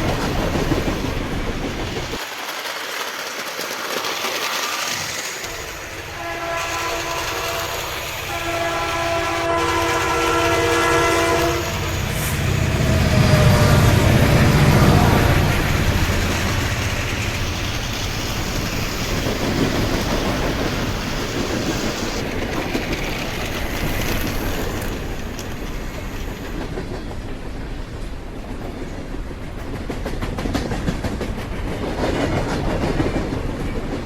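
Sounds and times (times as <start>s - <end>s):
clickety-clack over rail joints: 0.0s - 34.0s
train wheels rumbling on rails: 0.0s - 34.0s.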